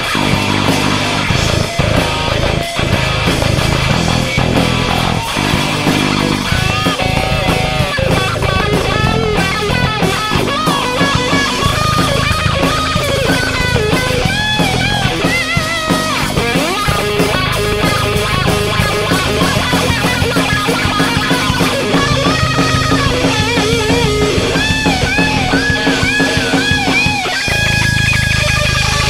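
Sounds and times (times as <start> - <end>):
drums and bass guitar: 0.0 - 29.0
lead electric guitar melody: 0.0 - 29.0.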